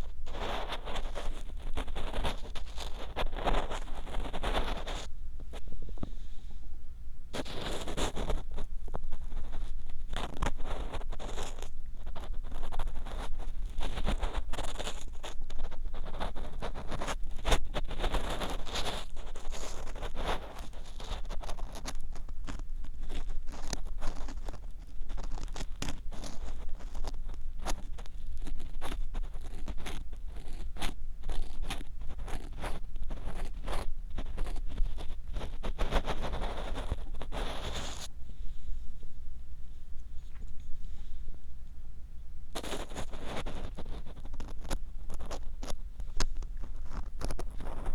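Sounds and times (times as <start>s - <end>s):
ear pick scraping microphone: 0.0s - 6.6s, 7.3s - 39.2s, 42.5s - 47.9s.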